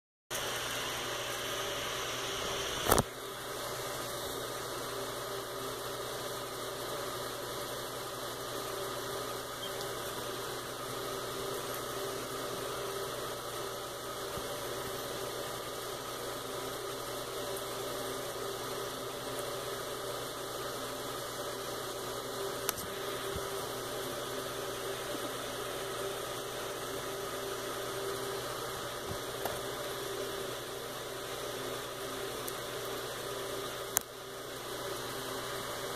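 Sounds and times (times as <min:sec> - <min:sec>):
machinery hum and hiss: 0:00.3 - 0:35.9.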